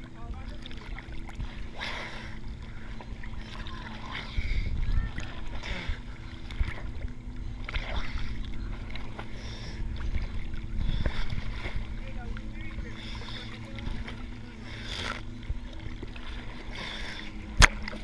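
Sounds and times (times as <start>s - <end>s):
low rumble of moving water: 0.0s - 18.0s
small waves splashing: 0.0s - 18.0s.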